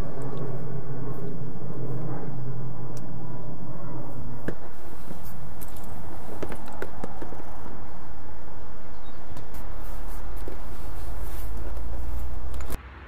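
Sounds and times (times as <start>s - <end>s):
low steady hum: 0.0s - 12.8s.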